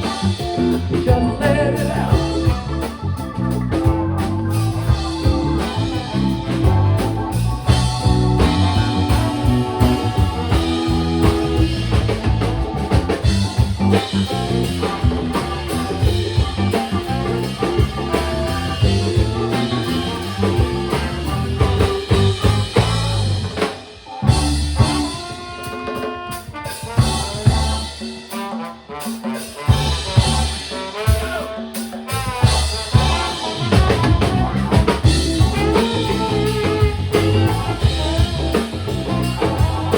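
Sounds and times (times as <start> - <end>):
drum kit: 0.0 - 39.9
funk band playing live: 0.0 - 39.9.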